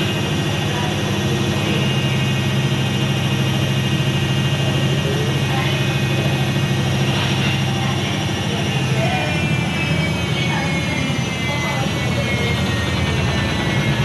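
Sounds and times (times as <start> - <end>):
washing machine spin cycle: 0.0 - 14.0.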